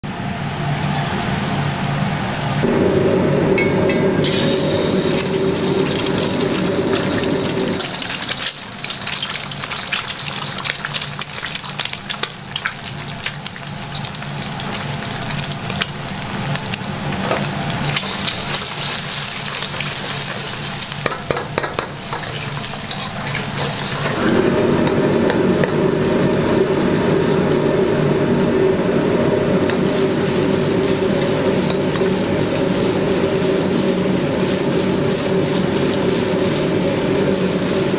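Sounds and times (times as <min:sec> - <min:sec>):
gas burner roar: 0:00.0 - 0:37.9
eggs sizzling in oil: 0:04.2 - 0:37.9.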